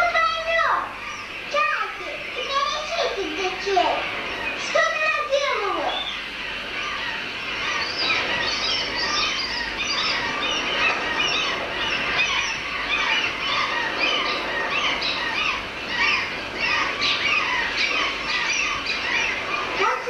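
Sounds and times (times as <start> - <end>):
seabird colony calling: 0.0 - 20.0.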